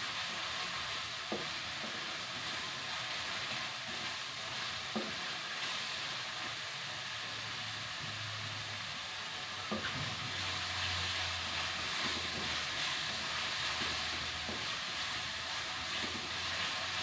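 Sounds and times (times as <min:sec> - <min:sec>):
spice paste sizzling in oil: 0:00.0 - 0:17.0.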